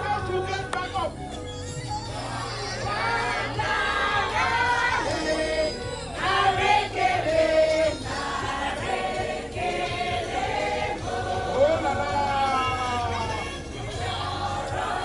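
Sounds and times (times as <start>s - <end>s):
background music: 0.0s - 15.0s
group of people singing: 2.0s - 15.0s.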